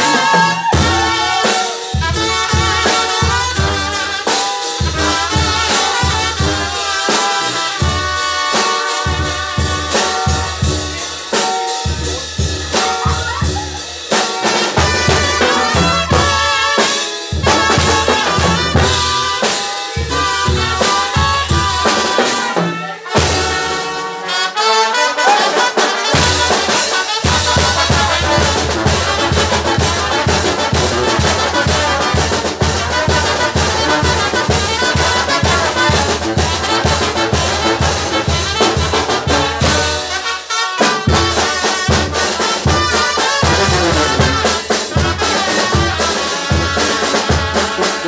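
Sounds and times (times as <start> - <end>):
dance music with brass and drums: 0.0 - 48.0.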